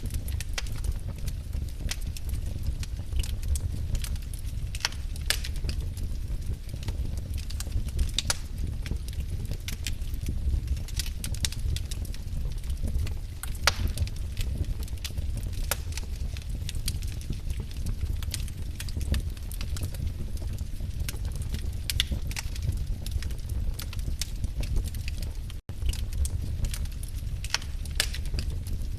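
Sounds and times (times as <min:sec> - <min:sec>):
low rumble of flames: 0:00.0 - 0:28.9
wood fire snaps and pops: 0:00.0 - 0:28.9.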